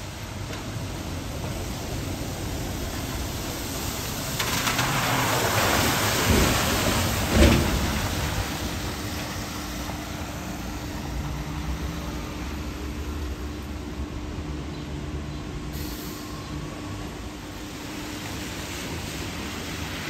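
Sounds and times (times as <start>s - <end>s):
bus tyre hiss on wet road: 0.0s - 14.1s, 15.6s - 20.0s.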